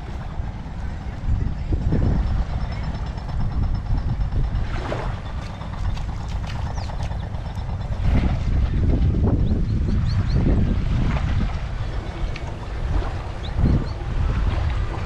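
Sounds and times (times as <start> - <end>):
sea washing: 0.0 - 15.0
wind buffeting microphone: 0.0 - 15.0.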